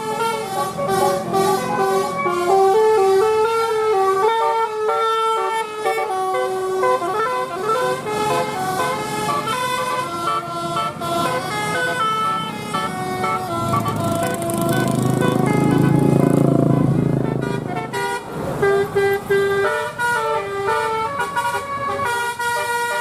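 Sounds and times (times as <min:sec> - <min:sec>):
musical bus horn playing a tune: 0:00.0 - 0:23.0.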